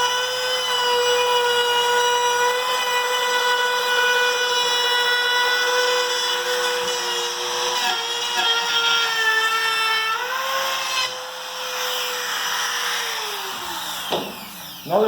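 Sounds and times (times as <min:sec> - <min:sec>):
router motor whine: 0:00.0 - 0:15.0.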